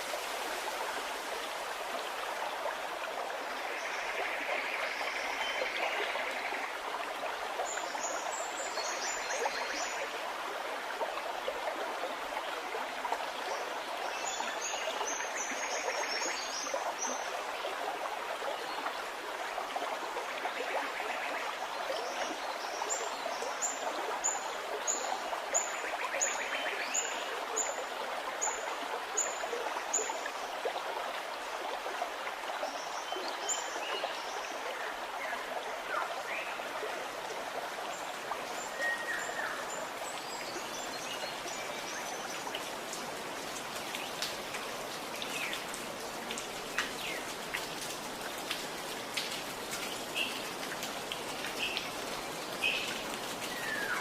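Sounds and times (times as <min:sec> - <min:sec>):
stream gurgling: 0:00.0 - 0:54.0.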